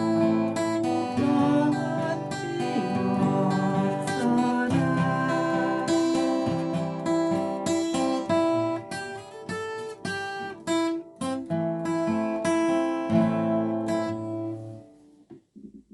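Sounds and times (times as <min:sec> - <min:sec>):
acoustic guitar picking: 0:00.0 - 0:15.9.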